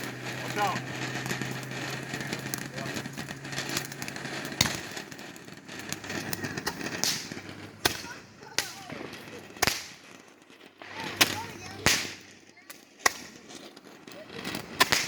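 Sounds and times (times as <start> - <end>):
fireworks bangs: 0.0 - 15.0
fireworks popping: 0.0 - 15.0.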